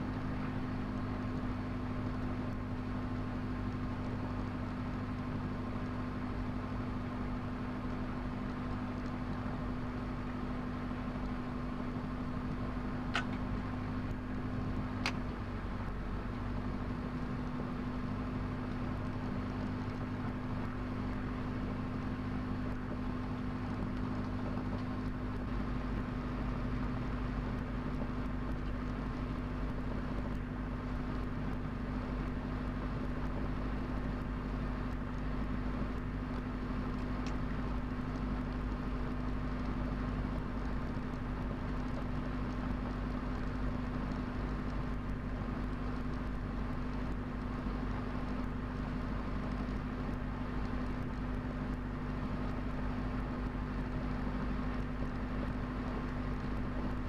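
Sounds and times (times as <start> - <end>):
propeller engine humming: 0.0 - 57.0.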